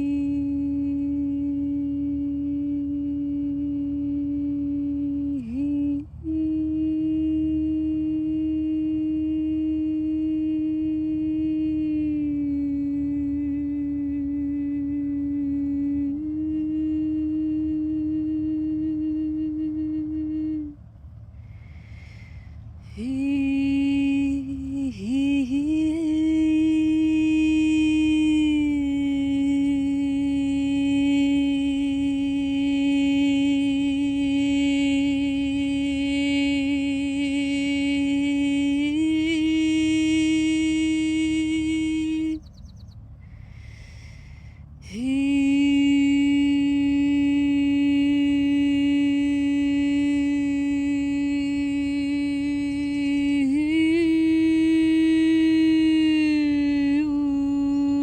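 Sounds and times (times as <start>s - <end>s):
woman singing sustained notes: 0.0s - 58.0s.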